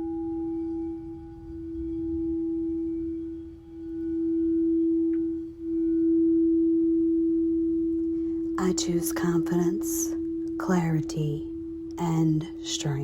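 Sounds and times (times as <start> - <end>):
crystal singing bowl ringing: 0.0 - 13.0.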